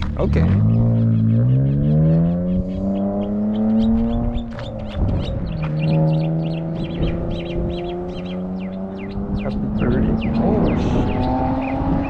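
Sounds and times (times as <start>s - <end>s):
car engine revving: 0.0s - 12.0s
small birds chirping: 0.0s - 12.0s.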